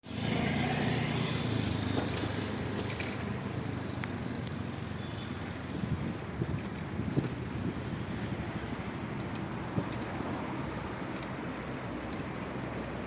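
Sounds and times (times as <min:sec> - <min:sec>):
vehicle engine rumbling: 0:00.0 - 0:13.0
tyre and wind noise: 0:00.5 - 0:13.0.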